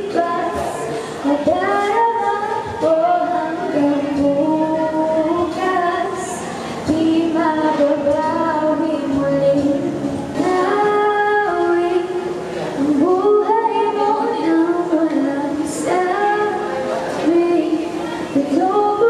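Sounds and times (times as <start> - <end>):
girl singing a slow melody: 0.0 - 19.0.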